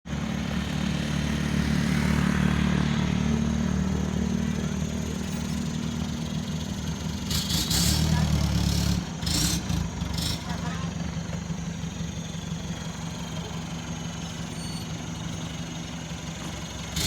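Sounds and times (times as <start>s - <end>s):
vehicle engine idling: 0.1s - 17.0s.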